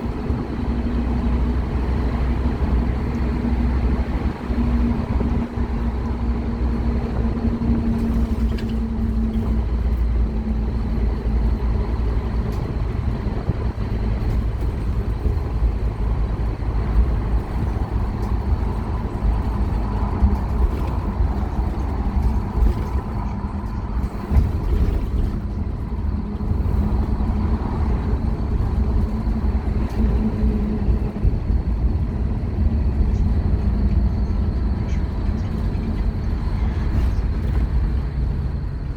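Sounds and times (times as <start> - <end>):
bus diesel engine droning: 0.0 - 38.9
road rumble: 0.0 - 38.9.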